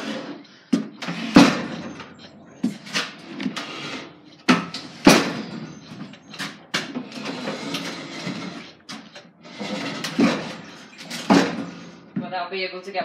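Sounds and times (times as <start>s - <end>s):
pallet truck rattling and clanking: 0.8s - 12.3s.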